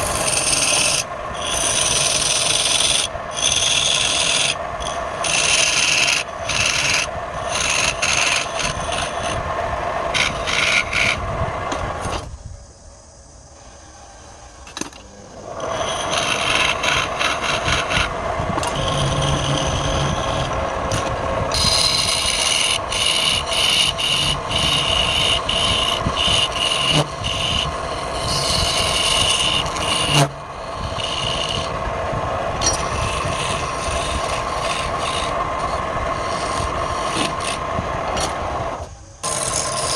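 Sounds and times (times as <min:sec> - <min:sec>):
lathe machine hum: 0:00.0 - 0:12.2, 0:13.6 - 0:39.9
tool scraping spinning wood: 0:00.0 - 0:12.3, 0:14.7 - 0:39.9.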